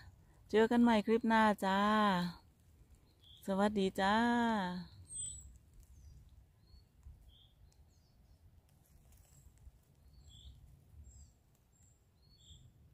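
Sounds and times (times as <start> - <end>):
distant birds chirping: 0.0 - 12.9.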